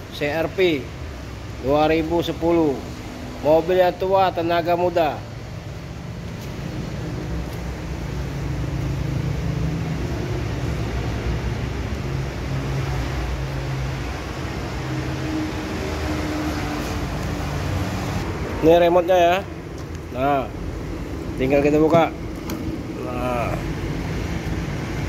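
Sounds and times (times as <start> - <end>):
vehicle engine idling: 0.2 - 25.0.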